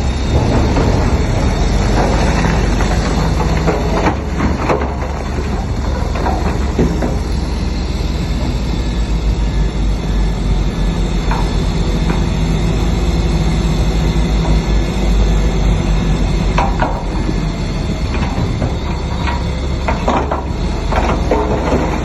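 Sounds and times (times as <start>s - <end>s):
heavy diesel machinery rumbling: 0.0s - 22.0s
metallic clanks and squeaks: 0.0s - 22.0s.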